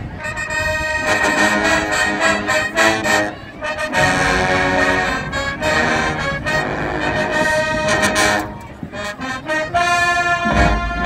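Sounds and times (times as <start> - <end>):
marching band brass chords: 0.0 - 11.0.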